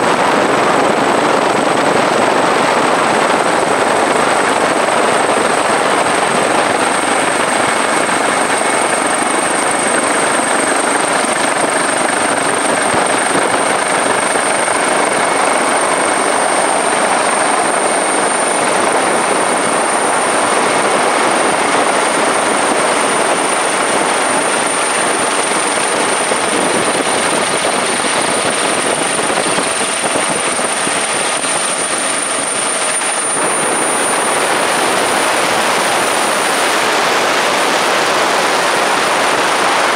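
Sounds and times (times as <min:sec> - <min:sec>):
helicopter rotor and engine: 0:00.0 - 0:39.9
high whine: 0:00.0 - 0:39.9.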